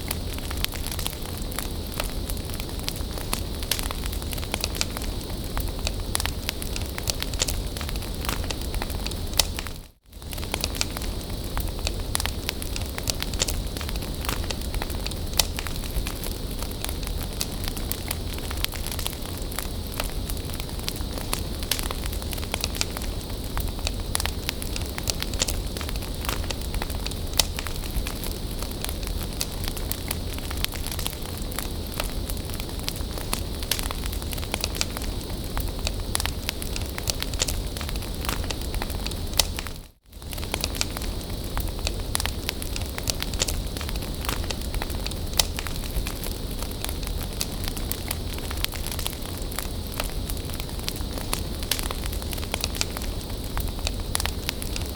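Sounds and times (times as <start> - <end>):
bonfire crackling and popping: 0.0 - 54.9
fire hiss: 0.0 - 54.9.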